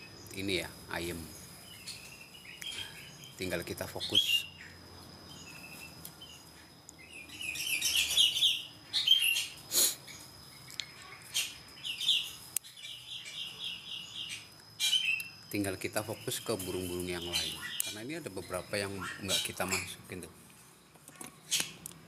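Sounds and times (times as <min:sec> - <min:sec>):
songbirds chirping and calling: 0:00.0 - 0:22.0.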